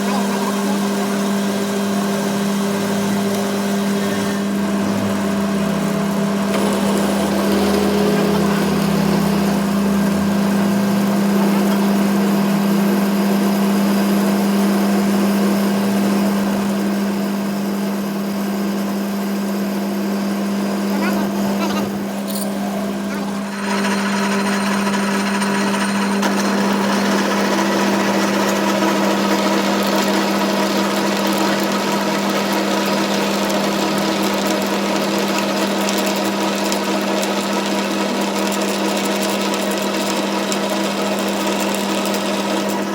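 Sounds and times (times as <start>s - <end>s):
workshop machine humming: 0.0s - 42.9s.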